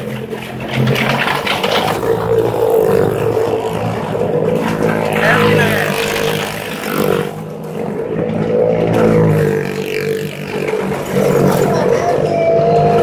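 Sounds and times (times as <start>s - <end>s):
vehicle engines circling: 0.0s - 13.0s.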